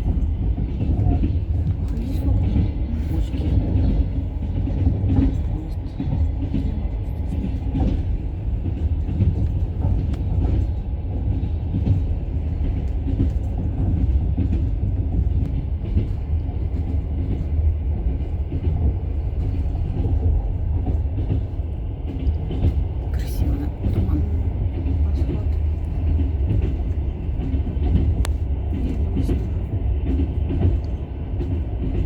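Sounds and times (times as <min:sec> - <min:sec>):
faint rattles and clicks: 0:00.0 - 0:32.0.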